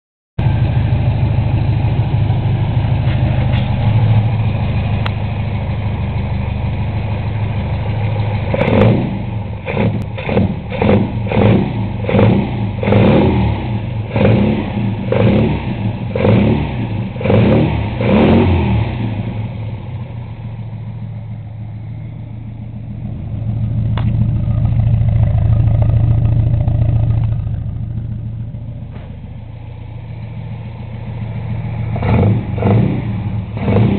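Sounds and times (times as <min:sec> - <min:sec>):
car engine idling: 0:00.4 - 0:33.9
engine throttle blips: 0:00.4 - 0:33.9.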